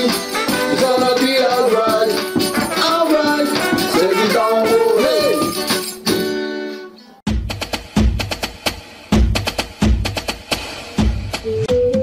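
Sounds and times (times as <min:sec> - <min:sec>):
instrumental reggae music: 0:00.0 - 0:12.0.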